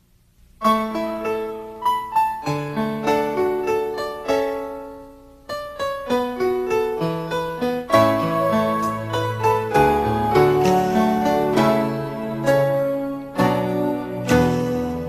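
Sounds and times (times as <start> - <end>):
slow piano chords and notes: 0.0 - 15.0.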